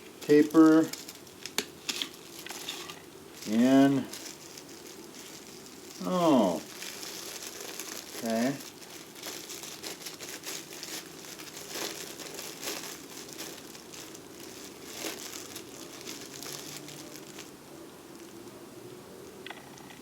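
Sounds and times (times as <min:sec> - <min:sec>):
wrapping crinkling: 0:00.0 - 0:18.6.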